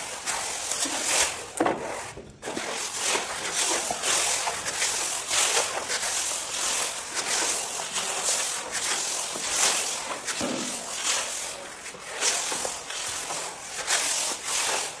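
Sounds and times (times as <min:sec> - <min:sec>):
spatula scraping filler on wood: 0:00.0 - 0:15.0.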